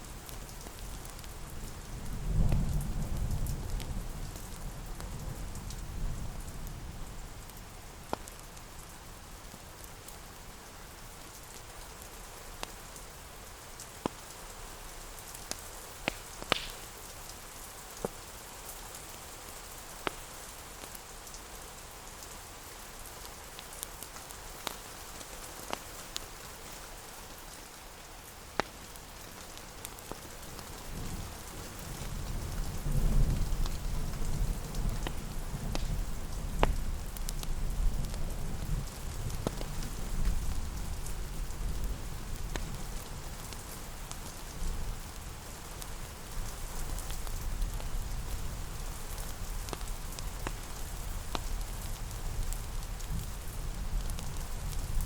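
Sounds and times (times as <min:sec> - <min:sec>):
rain falling: 0:00.0 - 0:55.0
wood fire crackling: 0:00.1 - 0:06.4, 0:07.1 - 0:55.0.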